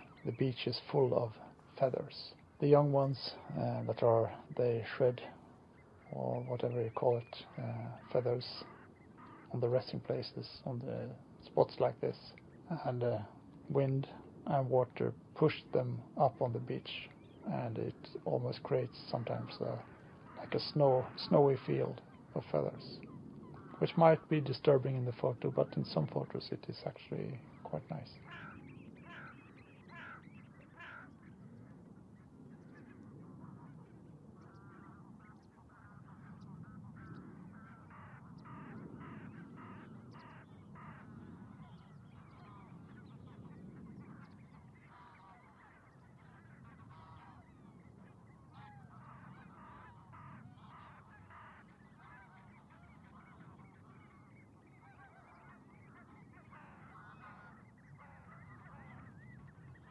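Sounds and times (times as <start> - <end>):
waterbirds honking: 0.0 - 10.6, 13.8 - 59.9.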